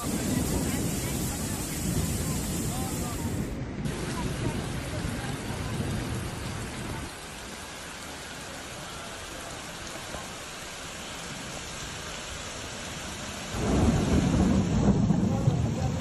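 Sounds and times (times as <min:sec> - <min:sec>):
heavy rain on flooded street: 0:00.0 - 0:16.0.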